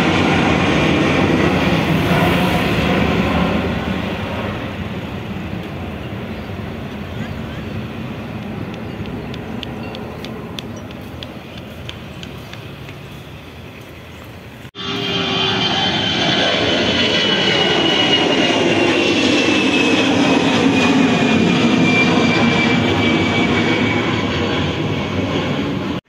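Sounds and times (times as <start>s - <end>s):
jet engine rumble with fan whine: 0.0s - 13.4s, 14.1s - 26.0s
jet airliner engines climbing: 0.0s - 26.0s.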